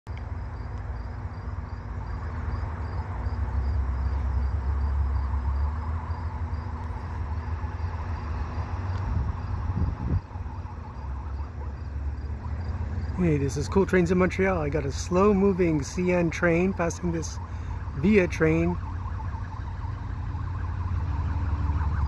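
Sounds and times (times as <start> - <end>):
insects chirping: 0.1 - 18.6
diesel locomotive rumble: 0.1 - 22.0.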